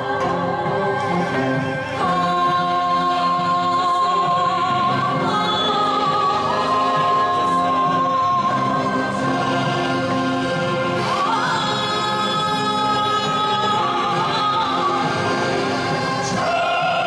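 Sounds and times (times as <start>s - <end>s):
choir and band performing: 0.0s - 17.0s.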